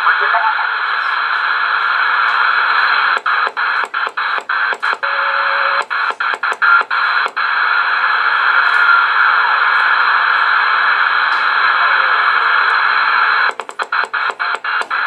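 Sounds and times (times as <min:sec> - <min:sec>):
radio static: 0:00.0 - 0:15.0.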